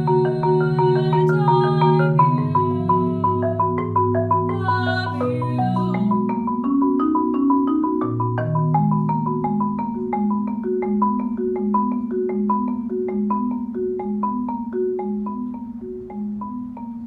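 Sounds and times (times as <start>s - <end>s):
solo marimba: 0.0s - 17.0s.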